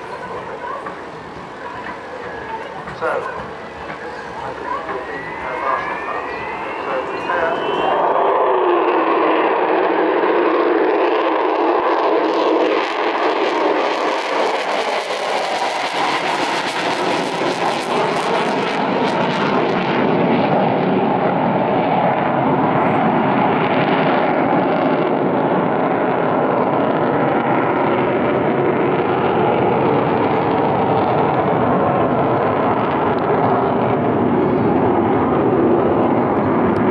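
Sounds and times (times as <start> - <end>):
deep jet rumble: 0.0 - 36.9
jet engines roaring: 0.0 - 36.9.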